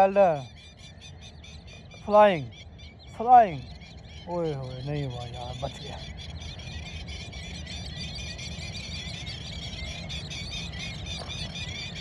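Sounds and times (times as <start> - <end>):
flock of birds chattering: 0.0 - 12.0.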